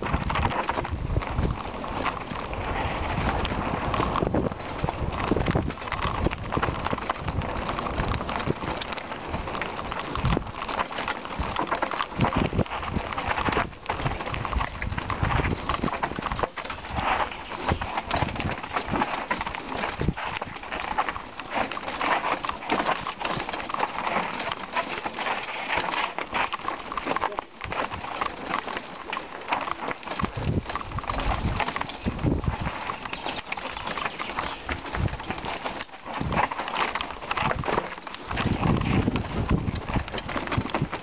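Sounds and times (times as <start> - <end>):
bike rattling over rocks: 0.0 - 41.0.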